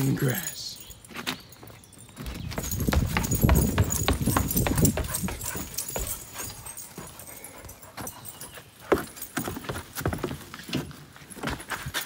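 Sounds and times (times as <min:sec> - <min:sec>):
dog paws running on dirt: 0:00.9 - 0:12.0.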